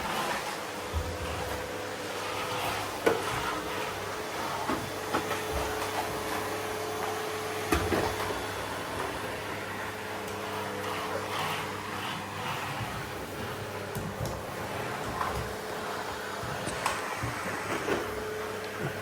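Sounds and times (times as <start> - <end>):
vacuum cleaner humming: 0.0 - 19.0.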